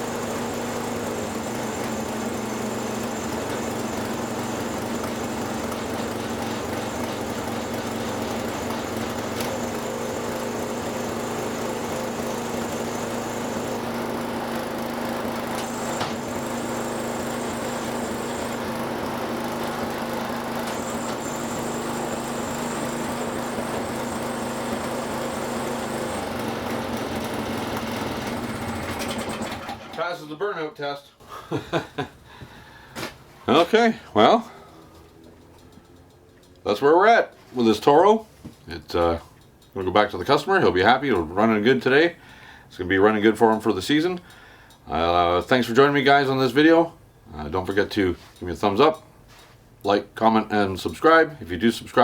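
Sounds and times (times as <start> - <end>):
snowblower engine running: 0.0 - 30.2, 31.4 - 52.0.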